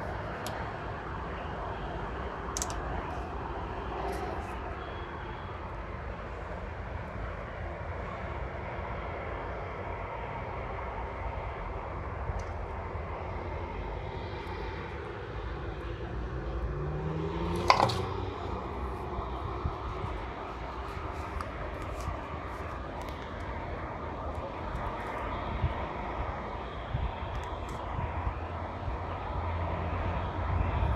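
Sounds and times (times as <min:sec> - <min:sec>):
distant jet aircraft rumble: 0:00.0 - 0:30.9.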